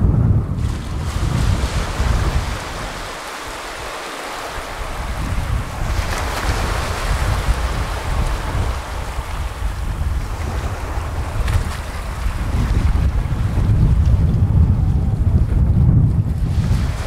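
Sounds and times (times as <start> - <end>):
waves breaking on sandy shore: 0.0 - 17.0
wind buffeting microphone: 0.0 - 17.0.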